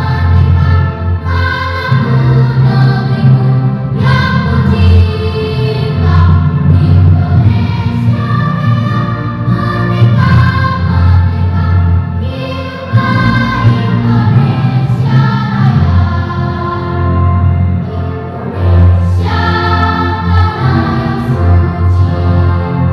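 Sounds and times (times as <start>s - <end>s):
children's choir singing: 0.0s - 22.9s.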